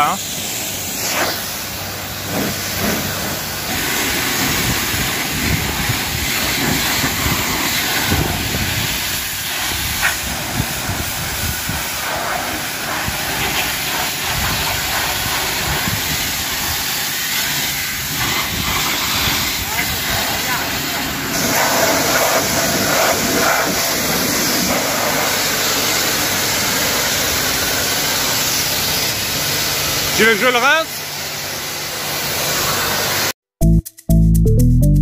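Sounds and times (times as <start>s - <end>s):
pressure washer spraying water: 0.0s - 33.4s.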